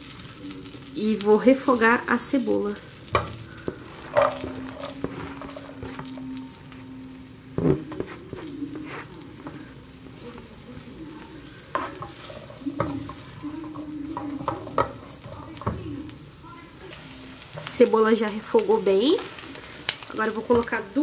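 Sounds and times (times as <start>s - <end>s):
onion sizzling in a pan: 0.0s - 21.0s.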